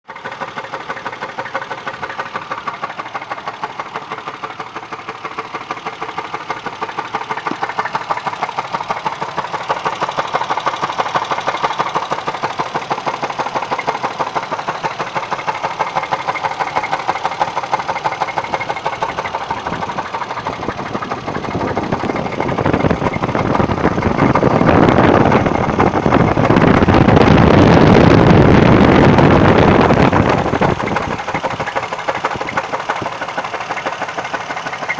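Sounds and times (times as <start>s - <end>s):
engine running with knocking: 0.0s - 34.9s.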